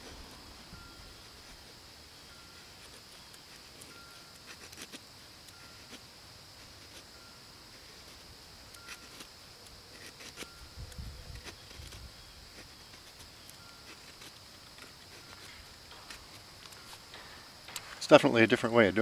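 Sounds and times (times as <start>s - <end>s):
knife scraping wood: 0.0s - 17.9s.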